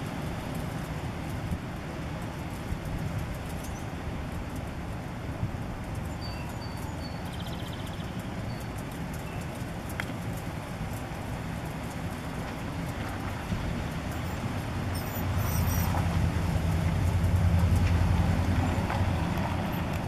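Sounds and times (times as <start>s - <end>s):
motor vehicle engine rumble: 0.0s - 20.0s.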